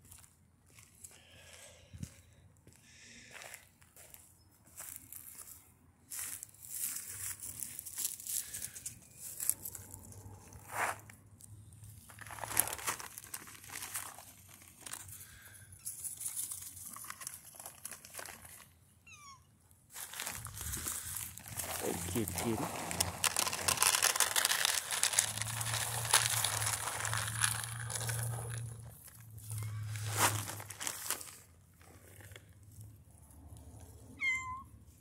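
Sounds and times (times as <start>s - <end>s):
crinkling and rustling: 4.8s - 18.8s, 19.9s - 34.0s.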